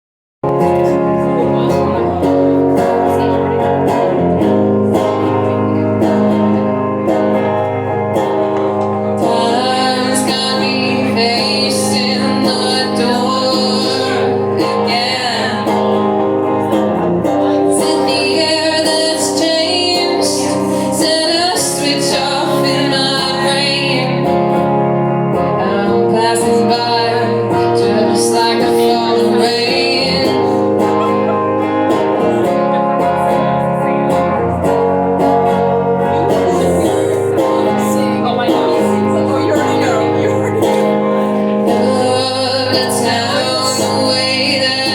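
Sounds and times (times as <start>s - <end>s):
guitar chords: 0.4s - 44.9s
person singing: 0.5s - 44.9s.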